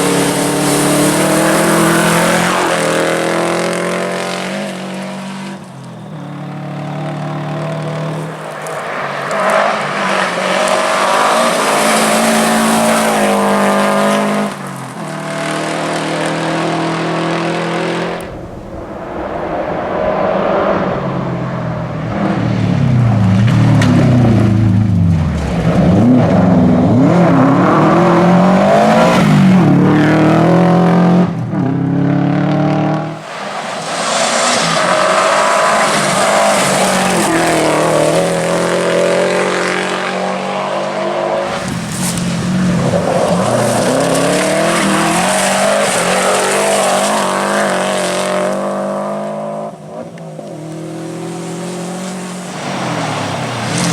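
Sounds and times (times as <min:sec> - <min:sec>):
rally car engine revving: 0:00.0 - 0:18.3, 0:20.1 - 0:53.9.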